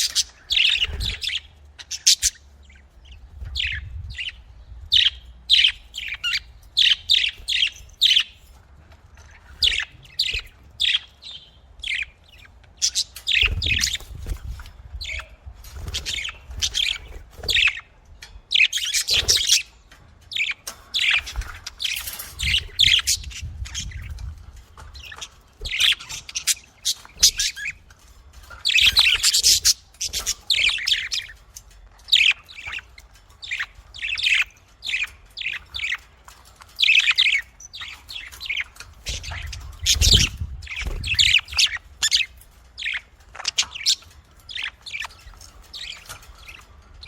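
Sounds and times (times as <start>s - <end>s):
budgerigars chirping: 0.0s - 8.4s, 9.2s - 47.0s.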